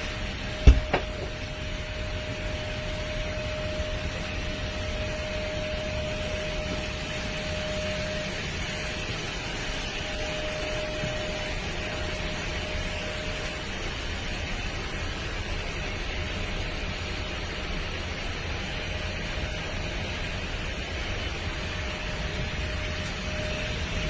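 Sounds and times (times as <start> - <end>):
faint steady whine: 0.0 - 24.0
jet airliner rushing noise: 0.0 - 24.0.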